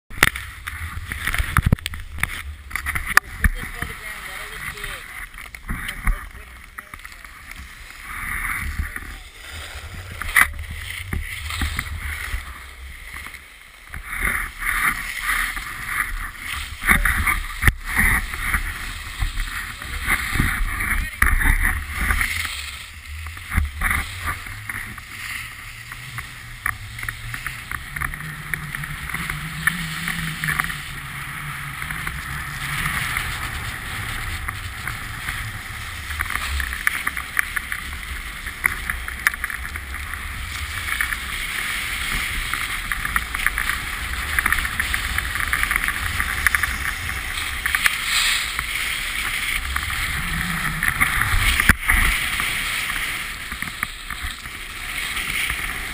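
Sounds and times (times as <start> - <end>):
skis scraping on hard snow: 0.1 - 55.9
wind rumbling on microphone: 0.1 - 55.9.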